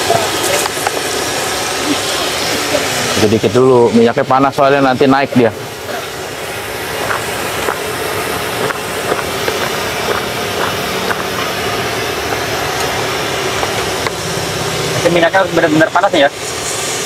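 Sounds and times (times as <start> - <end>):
oil popping and crackling: 0.0 - 3.8, 5.8 - 17.0
potatoes deep-frying in oil: 0.0 - 17.0.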